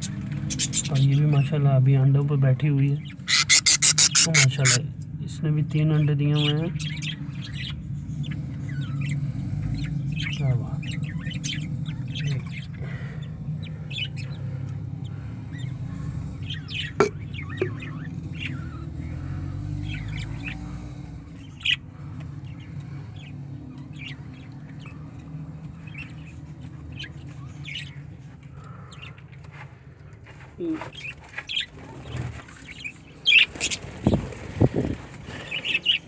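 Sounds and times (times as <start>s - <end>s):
budgerigars chirping: 0.0s - 1.6s, 2.9s - 4.9s, 5.9s - 29.3s, 31.0s - 34.4s, 35.4s - 36.0s
steady low hum: 3.0s - 33.2s.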